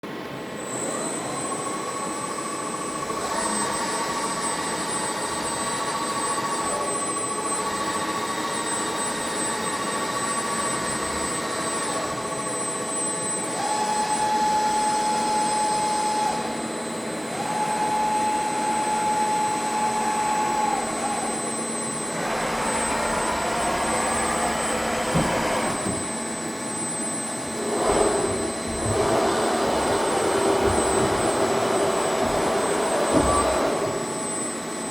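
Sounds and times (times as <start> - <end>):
machine steady high whine: 0.0 - 34.9
motor whines changing pitch: 0.6 - 34.9.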